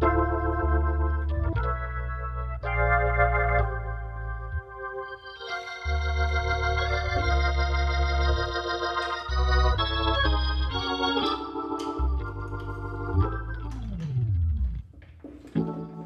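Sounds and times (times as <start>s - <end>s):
organ music: 0.0s - 16.0s.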